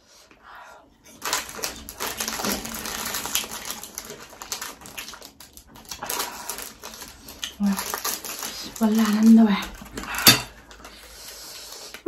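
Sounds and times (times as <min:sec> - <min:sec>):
plastic wrapper crinkling: 0:01.1 - 0:12.0.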